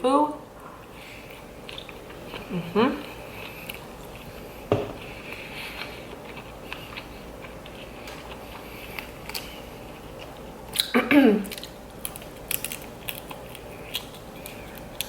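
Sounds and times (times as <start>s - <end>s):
soft chewing with crackles: 0.5s - 15.0s.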